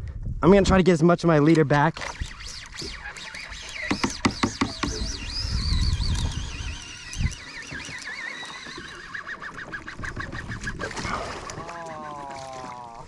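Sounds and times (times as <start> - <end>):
fishing reel drag whining: 1.9 - 13.0.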